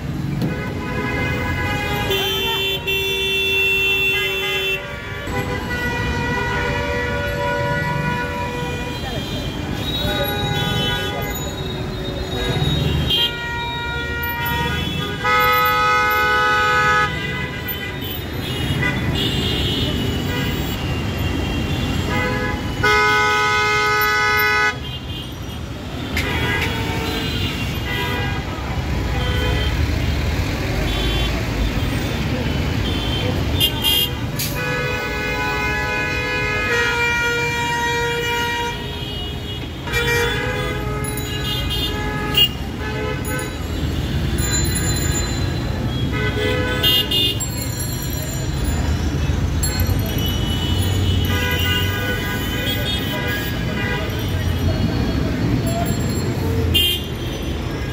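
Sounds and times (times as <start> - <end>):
traffic engines rumbling: 0.0 - 57.9
vehicle horns honking: 0.4 - 28.5, 32.7 - 44.9, 45.5 - 47.6, 49.0 - 57.9.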